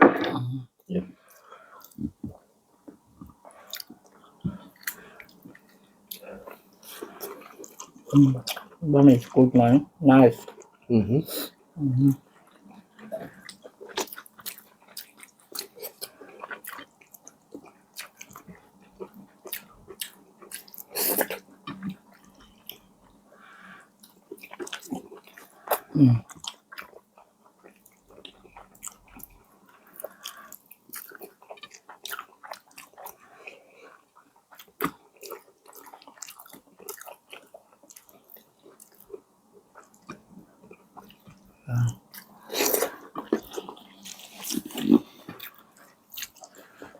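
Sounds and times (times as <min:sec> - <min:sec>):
person chewing food: 0:01.2 - 0:08.8, 0:12.2 - 0:46.9.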